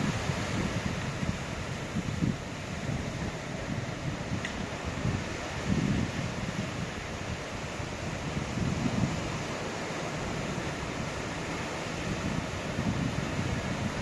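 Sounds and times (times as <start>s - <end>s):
ocean surf washing: 0.0s - 14.0s
wind buffeting microphone: 0.0s - 14.0s
wind hiss: 0.0s - 14.0s.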